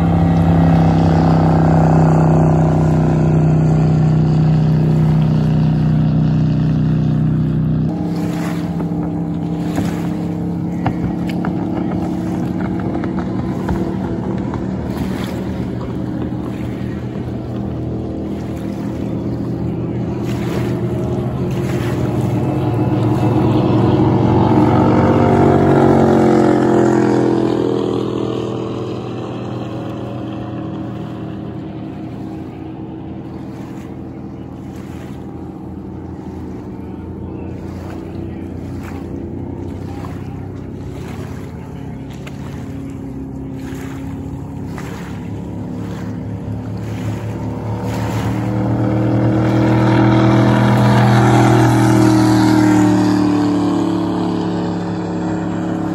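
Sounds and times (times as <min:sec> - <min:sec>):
race boat engines passing: 0:00.0 - 0:55.9.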